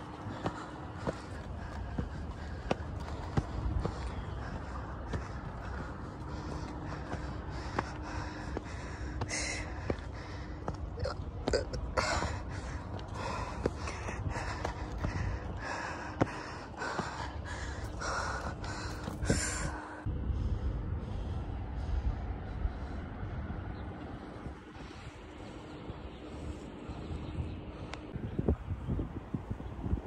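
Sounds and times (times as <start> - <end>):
person breathing hard: 0.0 - 28.2
low rumble: 0.0 - 30.0.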